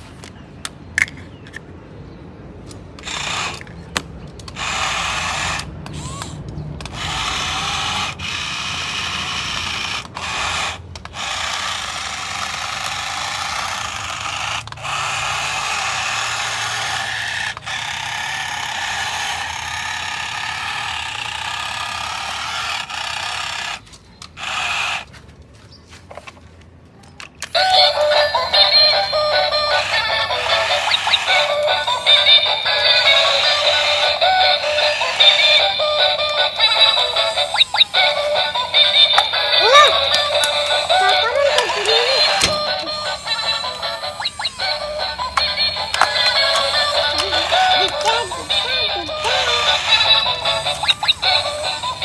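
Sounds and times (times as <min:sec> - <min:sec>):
toy electric motor whirring: 0:02.7 - 0:25.2, 0:27.4 - 0:52.0.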